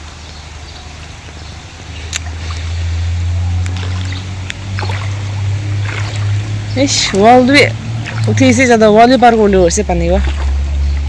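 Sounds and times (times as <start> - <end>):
faint water: 0.0 - 11.0.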